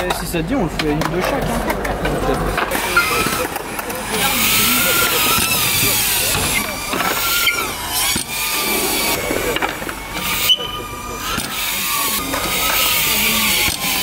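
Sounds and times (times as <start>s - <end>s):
drone motors whining: 1.9s - 14.0s.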